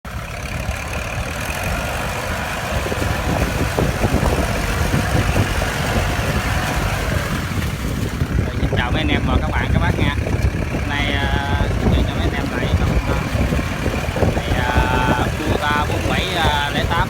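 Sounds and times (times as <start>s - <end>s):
tractor diesel engine running: 0.0s - 17.0s
knocks and clanks: 1.2s - 17.0s.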